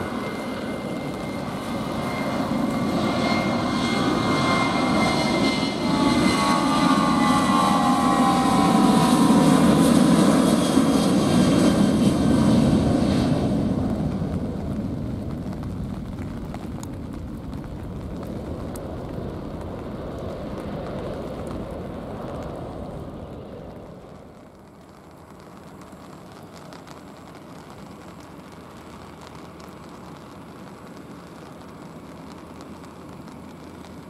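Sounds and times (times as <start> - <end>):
jet engines at takeoff: 0.0 - 34.0
rain: 0.0 - 34.0.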